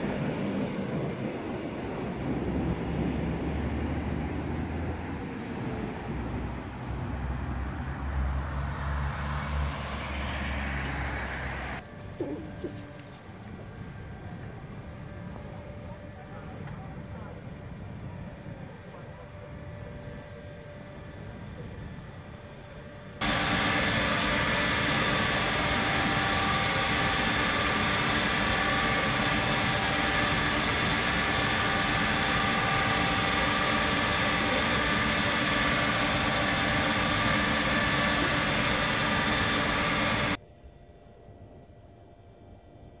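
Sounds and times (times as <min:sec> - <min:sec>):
train equipment hissing and humming: 0:00.0 - 0:40.4.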